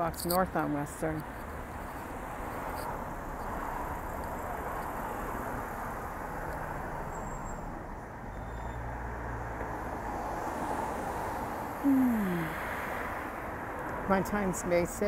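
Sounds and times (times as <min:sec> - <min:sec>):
cars passing: 0:00.0 - 0:15.0.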